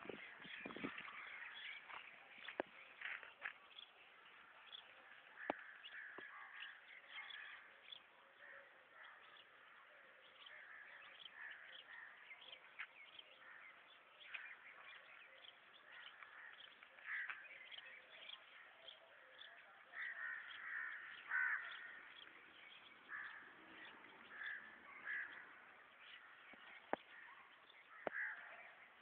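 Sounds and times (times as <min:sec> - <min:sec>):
faint bird chirps and caws: 0:00.1 - 0:29.0.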